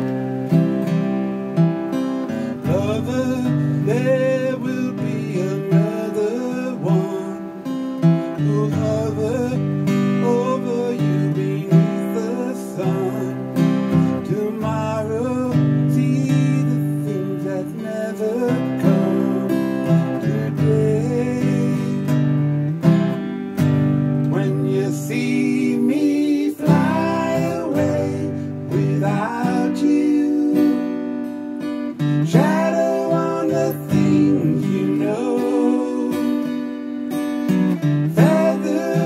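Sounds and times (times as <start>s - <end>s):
acoustic guitar strumming: 0.0s - 39.0s
man singing: 2.3s - 22.3s, 24.2s - 37.0s, 37.8s - 39.0s.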